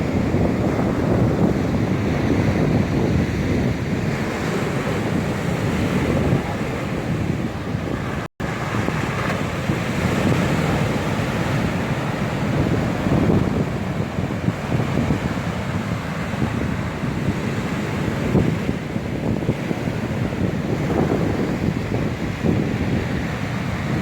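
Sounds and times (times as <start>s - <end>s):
surf breaking on shore: 0.0s - 24.0s
wind buffeting microphone: 0.0s - 24.0s.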